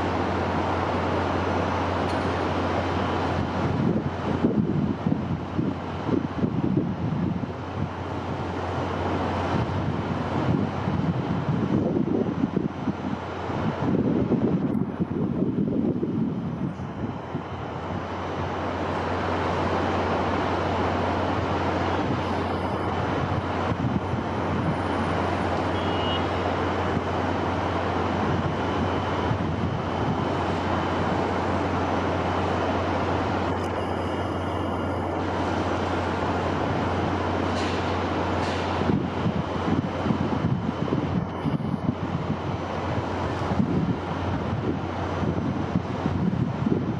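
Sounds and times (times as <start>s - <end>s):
rushing wind: 0.0s - 46.9s.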